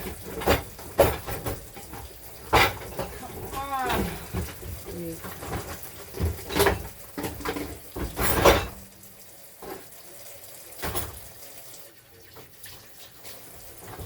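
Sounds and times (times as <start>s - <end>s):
running water: 0.0s - 14.0s
water splashing in a sink: 0.0s - 14.0s.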